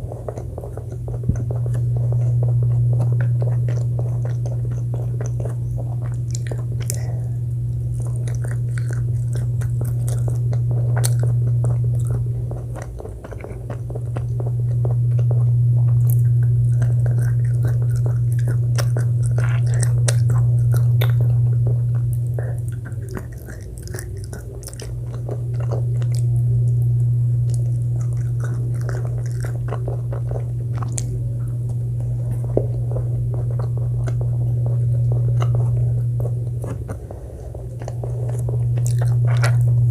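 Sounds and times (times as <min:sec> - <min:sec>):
low hum: 0:00.0 - 0:39.9
person chewing crunchy food: 0:00.0 - 0:39.9.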